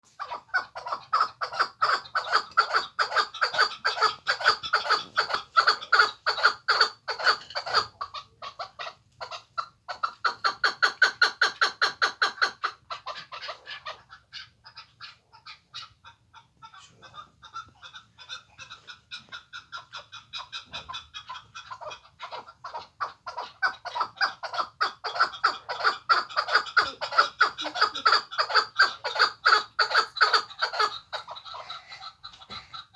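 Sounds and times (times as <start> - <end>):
partridge clucking calls: 0.1 - 32.9.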